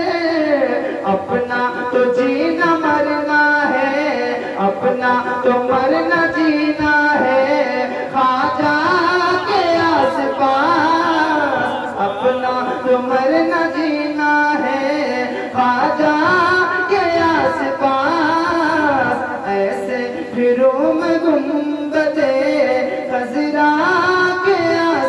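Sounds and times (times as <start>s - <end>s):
person singing: 0.0s - 25.0s.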